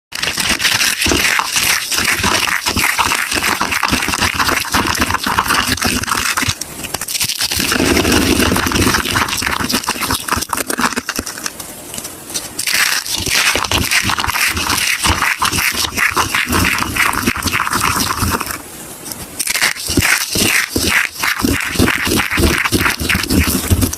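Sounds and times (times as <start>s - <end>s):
soap crunching and crackling: 0.2s - 11.6s, 12.4s - 18.6s, 19.4s - 23.9s.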